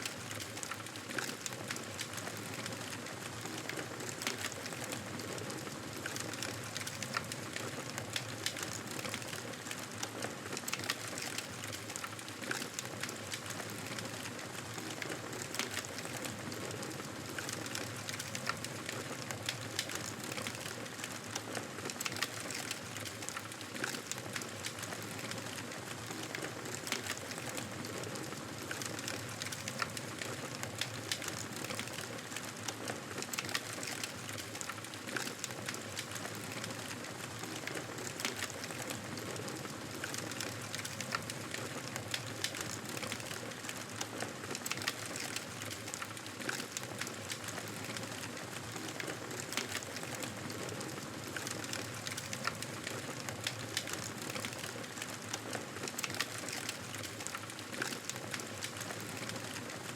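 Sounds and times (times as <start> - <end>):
campfire crackling: 5.9 - 59.8.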